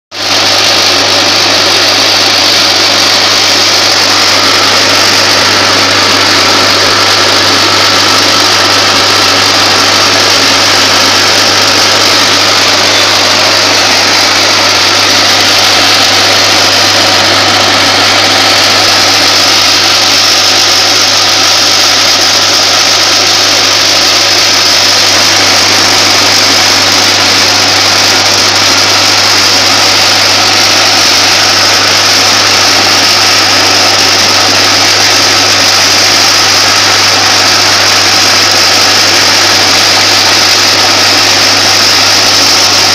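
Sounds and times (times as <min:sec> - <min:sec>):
bowl feeder drive humming: 0:00.2 - 0:42.9.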